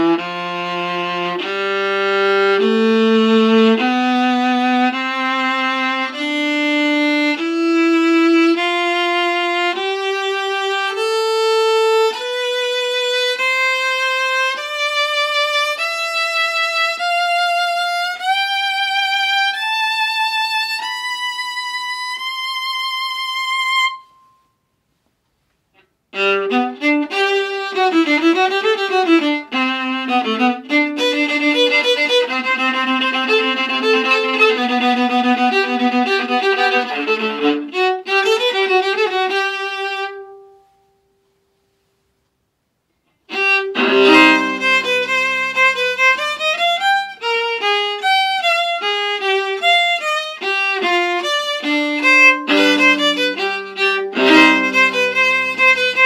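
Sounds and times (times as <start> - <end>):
viola bowed: 0.0 - 24.5, 26.1 - 40.9, 43.2 - 56.0.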